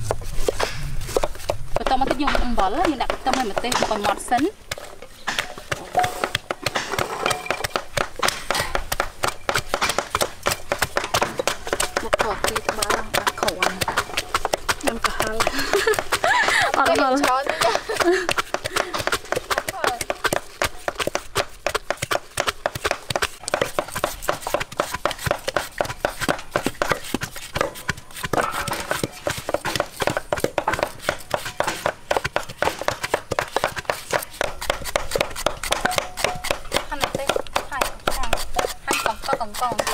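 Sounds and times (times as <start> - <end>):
peelers scraping fruit: 0.0 - 39.9
pestles pounding in mortars: 0.0 - 39.9.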